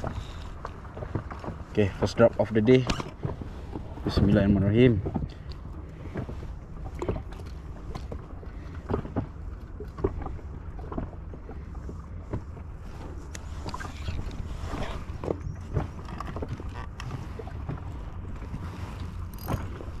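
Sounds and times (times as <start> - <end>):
low wind rumble: 0.0 - 20.0
water lapping against boat hull: 0.0 - 20.0.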